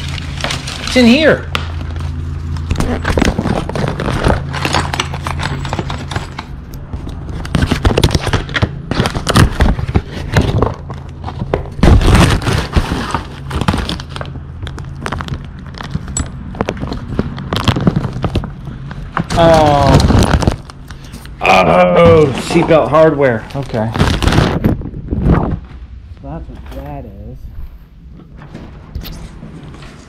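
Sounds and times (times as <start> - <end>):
paper and plastic bags rustling: 0.0 - 21.4, 22.0 - 25.8
low hum: 0.0 - 30.0.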